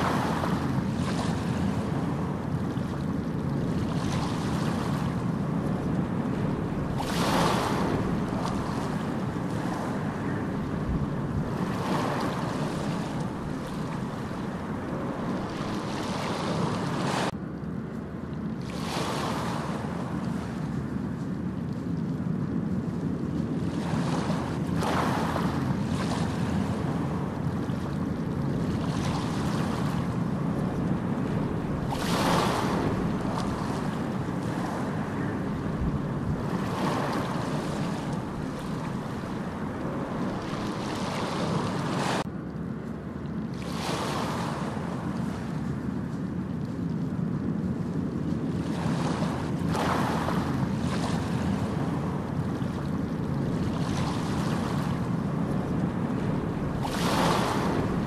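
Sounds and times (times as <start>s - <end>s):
steady rushing noise: 0.0s - 17.6s, 18.8s - 42.5s, 43.6s - 58.0s.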